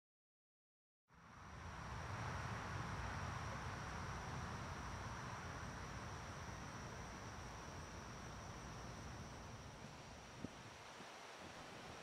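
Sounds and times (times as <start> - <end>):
outdoor background hiss and rumble: 1.1 - 12.0
crickets chirring: 1.3 - 12.0.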